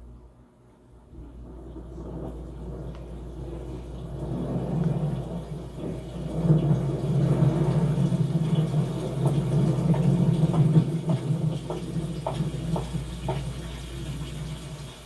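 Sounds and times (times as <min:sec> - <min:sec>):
low rumble of thunder: 0:01.1 - 0:13.2
rain: 0:01.2 - 0:15.0.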